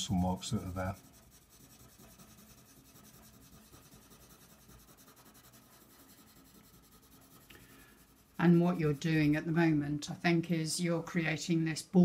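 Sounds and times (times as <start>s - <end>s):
pencil scratching on paper: 0.0s - 9.7s.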